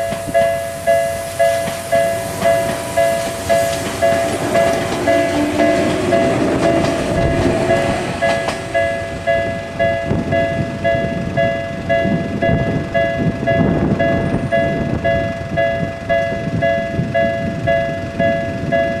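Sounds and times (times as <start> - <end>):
level crossing warning bell: 0.0 - 19.0
train rumbling past: 0.0 - 19.0
wheels clacking over rail joints: 0.0 - 19.0.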